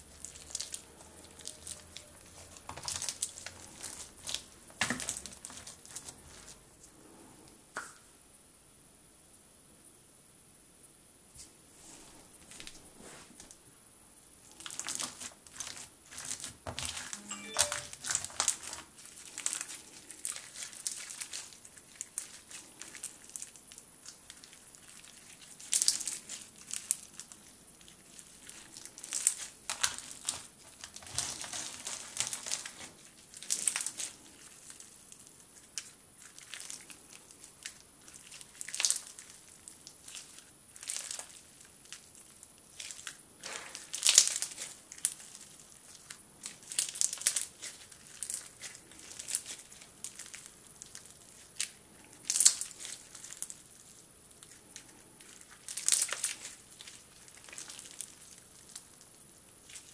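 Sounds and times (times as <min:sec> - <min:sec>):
slime crunchy crackles: 0:00.0 - 0:06.6, 0:14.5 - 0:59.9.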